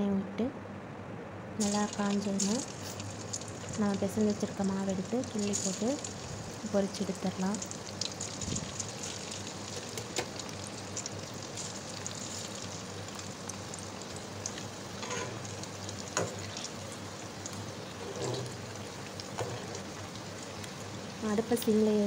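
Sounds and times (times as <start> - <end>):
spatula moving fritters: 1.6 - 21.0
fritters sizzling in hot oil: 1.6 - 22.0.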